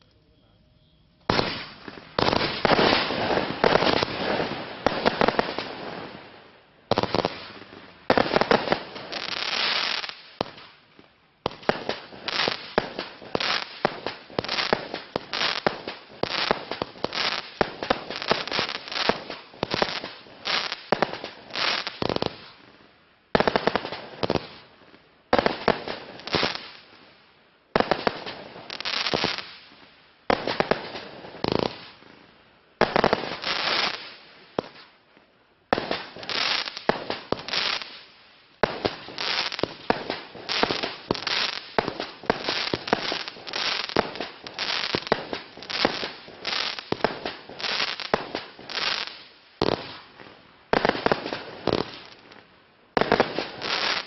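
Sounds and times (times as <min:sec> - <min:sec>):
fireworks firing volleys and bursts: 0:00.0 - 0:35.0, 0:35.7 - 0:54.0.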